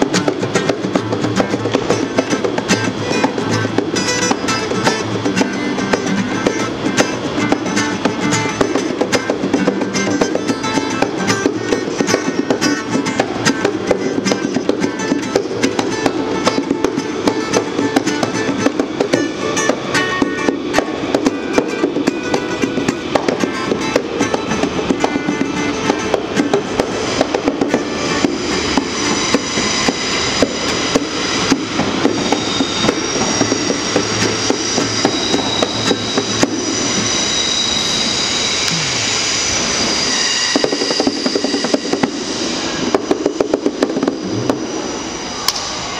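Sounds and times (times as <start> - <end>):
acoustic guitar strumming: 0.0 - 38.0
high steady whining tones: 0.0 - 45.9
train rumble with sharp clicks: 0.0 - 45.9.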